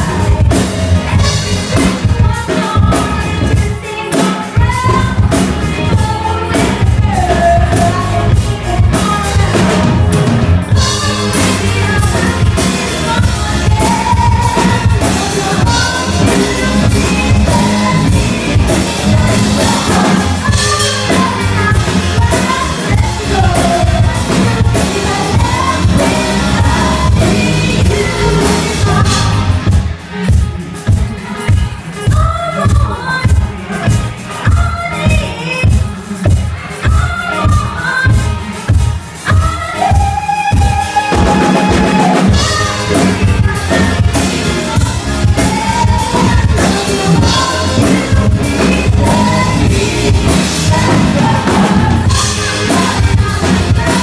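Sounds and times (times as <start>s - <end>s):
drum kit: 0.0s - 54.0s
electric bass: 0.0s - 54.0s
keyboards: 0.0s - 54.0s
woman singing: 0.0s - 54.0s.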